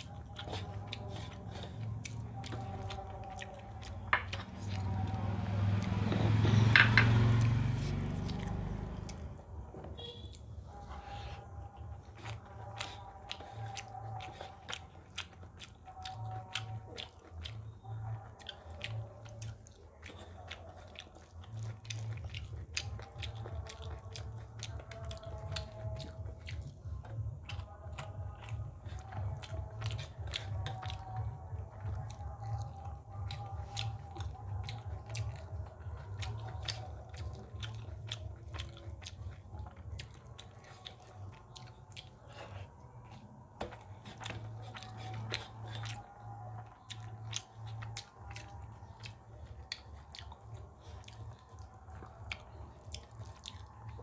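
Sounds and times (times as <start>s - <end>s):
close chewing with wet clicks: 0.0s - 54.0s
fingers squishing food: 0.0s - 54.0s.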